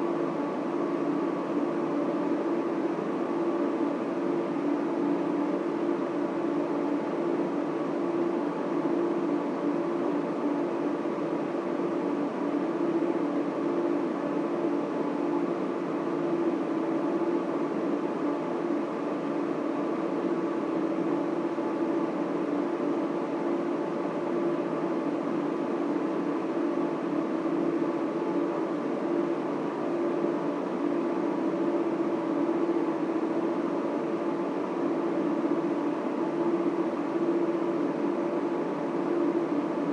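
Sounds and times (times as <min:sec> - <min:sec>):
server and cooling fans whirring: 0:00.0 - 0:39.9.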